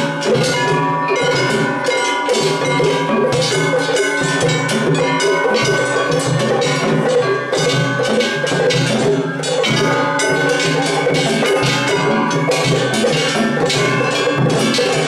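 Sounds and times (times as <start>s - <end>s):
metal hand bells clanging: 0.0s - 15.0s
taiko drum beats: 0.0s - 15.0s.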